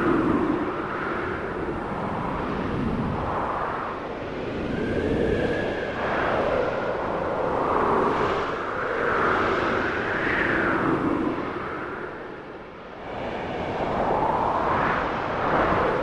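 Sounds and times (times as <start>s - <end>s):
snowstorm wind howling: 0.0s - 16.0s.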